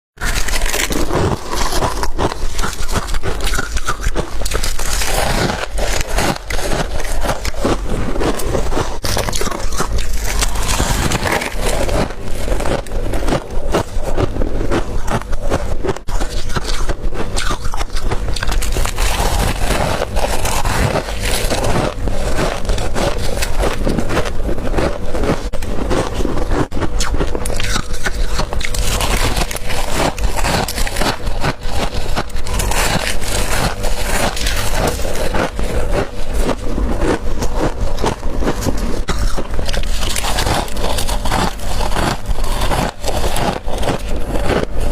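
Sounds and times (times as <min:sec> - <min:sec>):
frost crunching while chewed: 0:00.2 - 0:44.9.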